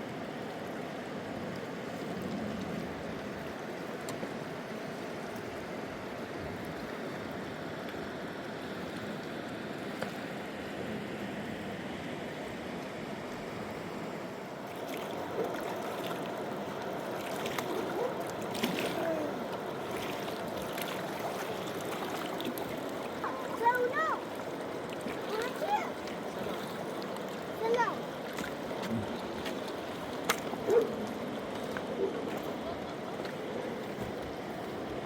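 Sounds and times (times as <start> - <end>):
river rushing: 2.9 - 35.0.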